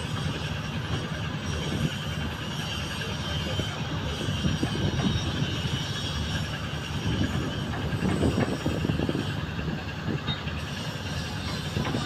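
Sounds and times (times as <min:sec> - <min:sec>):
boat diesel engine running: 0:00.0 - 0:12.0.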